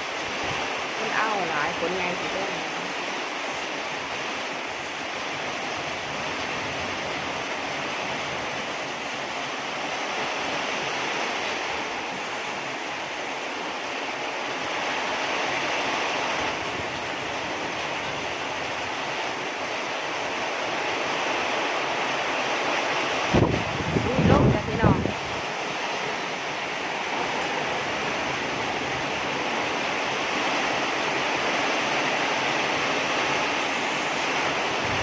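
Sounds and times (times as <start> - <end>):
heavy rain pouring: 0.0 - 35.0
wind: 0.0 - 35.0.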